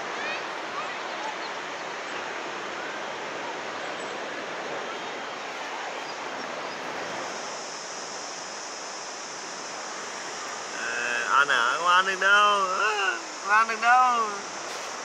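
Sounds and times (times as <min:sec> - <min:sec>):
ocean surf on sand: 0:00.0 - 0:15.0.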